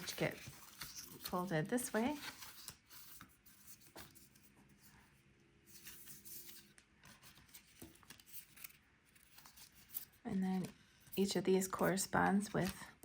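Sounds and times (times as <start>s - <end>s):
cardstock rustling: 0.0s - 4.8s, 5.7s - 13.0s.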